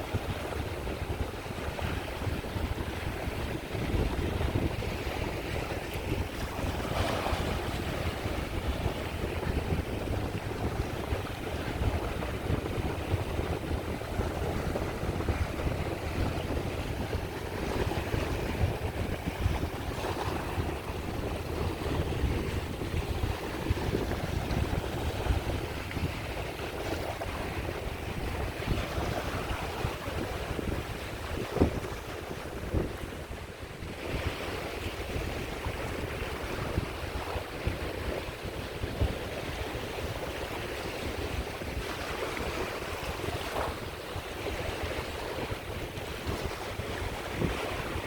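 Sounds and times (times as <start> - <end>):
sea waves on shore: 0.0 - 48.0
wind buffeting microphone: 0.0 - 48.0.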